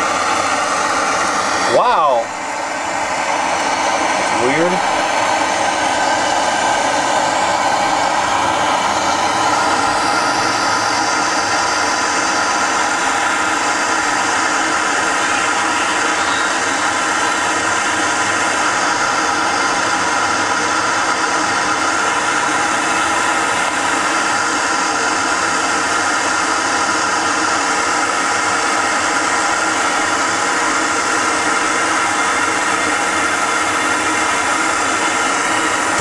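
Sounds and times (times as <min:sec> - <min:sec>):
torch flame burning: 0:00.0 - 0:36.0.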